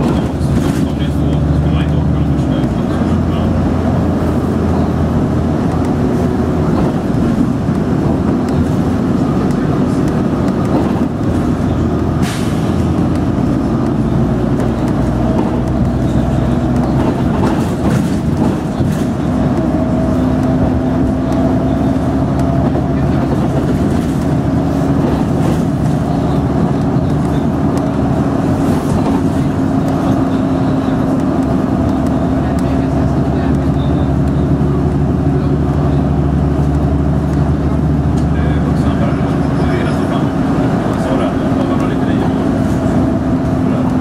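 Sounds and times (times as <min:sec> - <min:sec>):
bus engine drone: 0:00.0 - 0:44.0
road rumble: 0:00.0 - 0:44.0.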